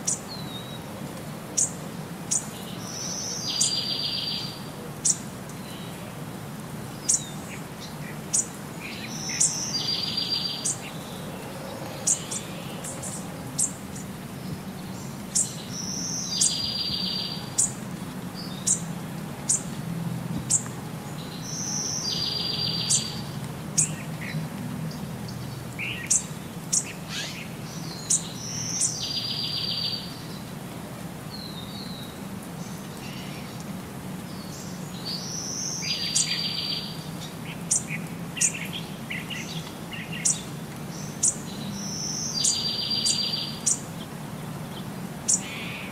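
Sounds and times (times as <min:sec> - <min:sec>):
birdsong chirps and trills: 0:01.6 - 0:06.0, 0:06.9 - 0:19.8, 0:20.4 - 0:30.5, 0:31.3 - 0:45.9.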